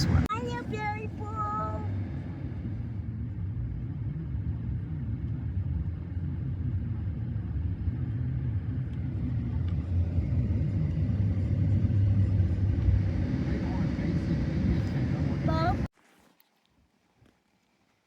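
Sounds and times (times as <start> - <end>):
car engine and road noise: 0.0 - 15.9.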